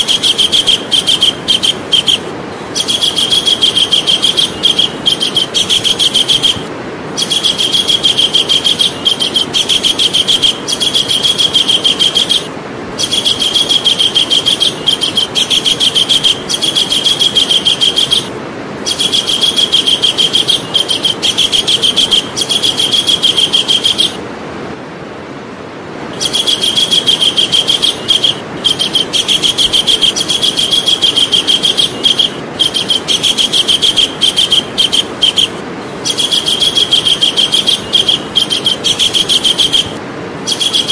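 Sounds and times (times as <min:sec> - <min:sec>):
kingfisher calling: 0:00.0 - 0:24.2, 0:26.1 - 0:40.9
steady background hiss: 0:00.0 - 0:40.9.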